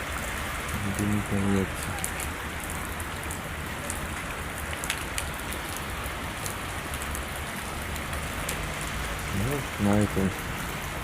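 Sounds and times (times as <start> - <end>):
steady rain hiss: 0.0 - 11.0
raindrop ticks: 0.1 - 11.0.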